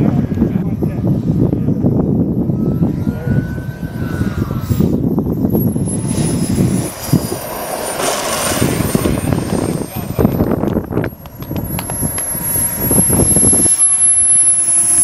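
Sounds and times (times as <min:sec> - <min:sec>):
heavy low rumble: 0:00.0 - 0:15.0
model jet turbine whine: 0:00.0 - 0:15.0.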